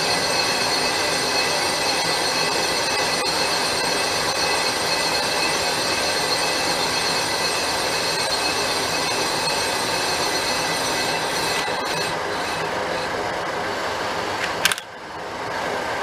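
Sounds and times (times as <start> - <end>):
metal lathe machining: 0.0 - 14.4
high-pitched ringing whine: 0.0 - 15.5.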